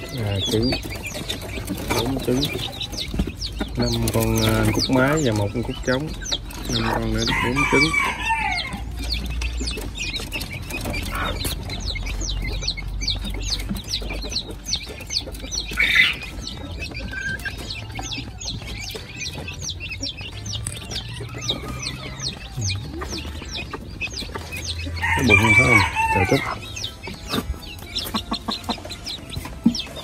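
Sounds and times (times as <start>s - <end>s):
poultry peeping: 0.0s - 30.0s.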